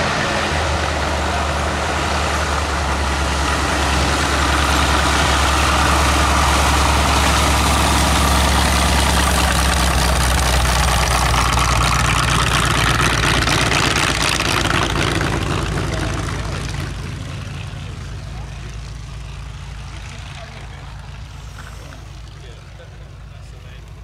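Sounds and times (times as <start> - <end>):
propeller noise: 0.0 - 24.0
radial aircraft engine droning: 0.0 - 24.0.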